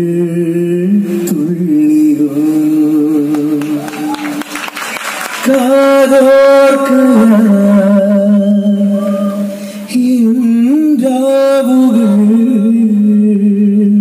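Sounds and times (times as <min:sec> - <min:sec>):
man singing through speakers: 0:00.0 - 0:04.6, 0:05.4 - 0:14.0.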